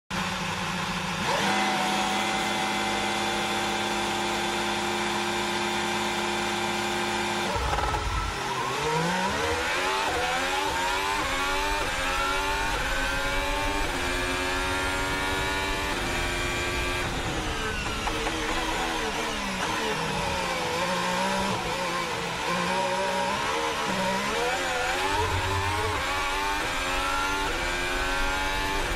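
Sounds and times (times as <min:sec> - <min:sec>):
racing car engine accelerating: 0:01.0 - 0:28.9.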